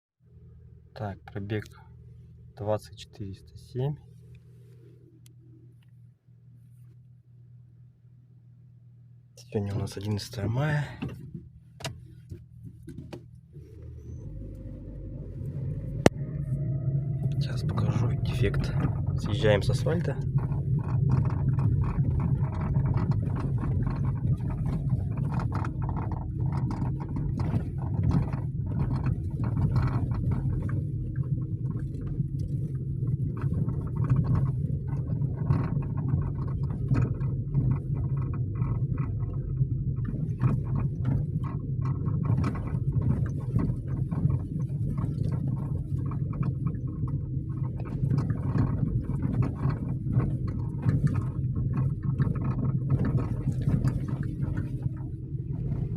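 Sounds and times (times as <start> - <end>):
car cabin low drone: 0.2 - 55.9.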